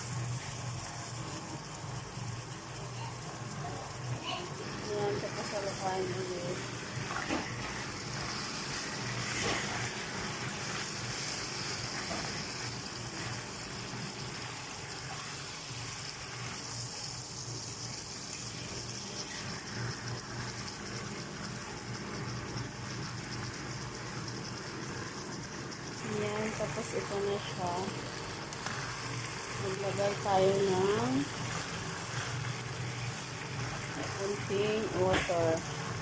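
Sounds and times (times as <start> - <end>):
chicken frying in oil: 0.0 - 36.0.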